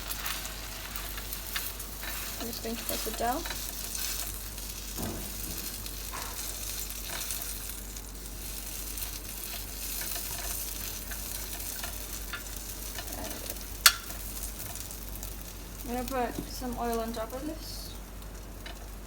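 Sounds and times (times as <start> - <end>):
patty frying in oil: 0.0 - 19.0.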